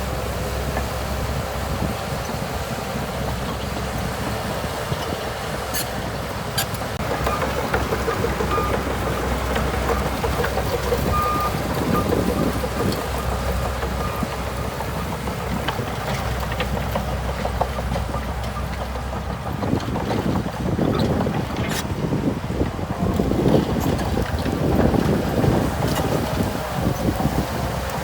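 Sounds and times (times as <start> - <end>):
bulldozer diesel engine hum: 0.0 - 28.0.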